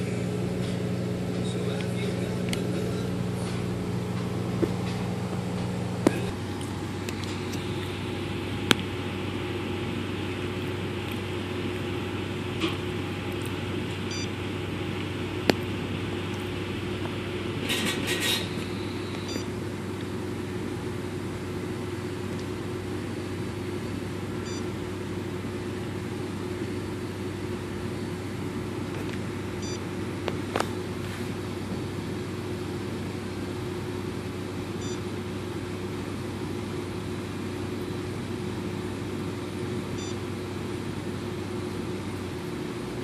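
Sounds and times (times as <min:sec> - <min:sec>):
steady machine hum: 0:00.0 - 0:43.0.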